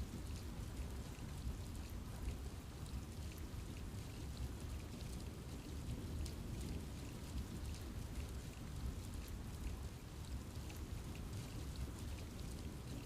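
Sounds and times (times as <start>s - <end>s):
raindrops ticking on foliage: 0.0s - 13.0s
rainfall rumble: 0.0s - 13.0s.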